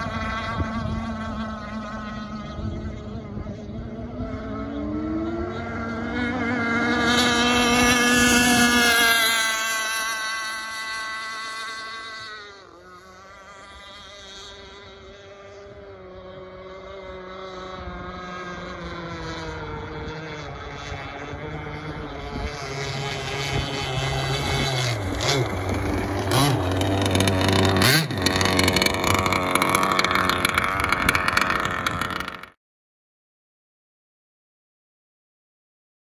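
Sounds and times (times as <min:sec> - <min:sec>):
rc boat engine running: 0:00.0 - 0:32.6.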